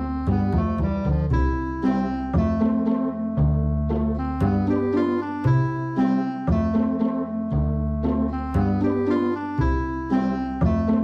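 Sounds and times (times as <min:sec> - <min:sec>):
plucked notes over bass line: 0:00.0 - 0:11.0.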